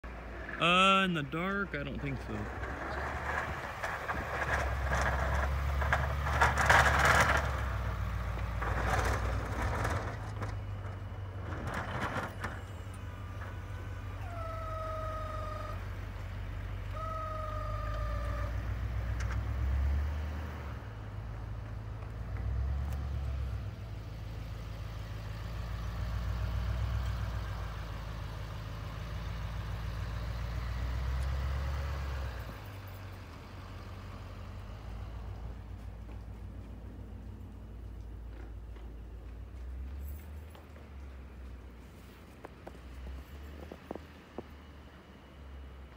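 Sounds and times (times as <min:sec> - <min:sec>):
snowplow scraping and clatter: 0:00.0 - 0:00.6, 0:01.2 - 0:14.2, 0:17.7 - 0:45.1
truck engine rumbling: 0:00.0 - 0:45.9.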